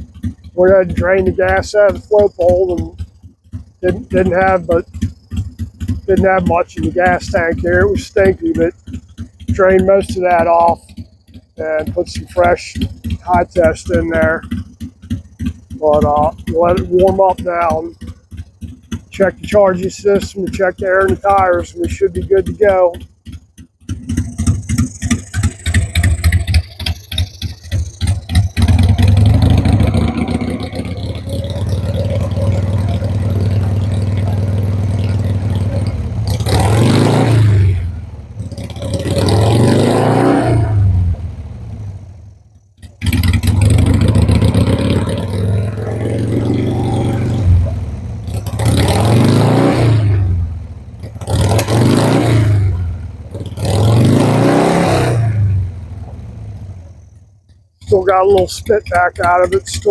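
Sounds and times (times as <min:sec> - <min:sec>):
motorcycle engine idling: 0:00.0 - 0:59.9
motorcycle starter cranking: 0:00.0 - 0:59.9
motorcycle throttle blipping: 0:00.0 - 0:59.9.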